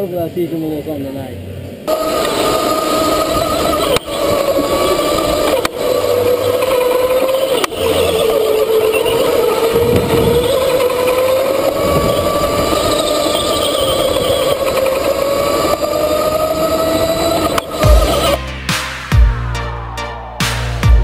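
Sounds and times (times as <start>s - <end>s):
go-kart motor running hard: 1.5s - 18.4s.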